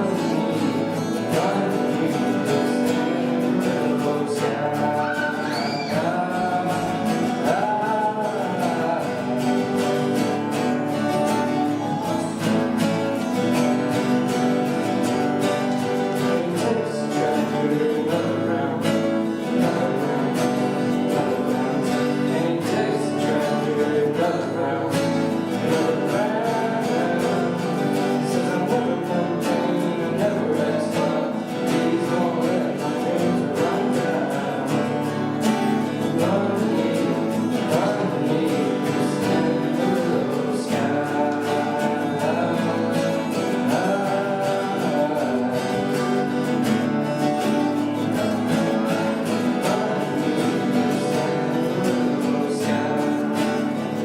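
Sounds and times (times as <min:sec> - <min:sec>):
acoustic guitar strummed and picked: 0:00.0 - 0:54.0.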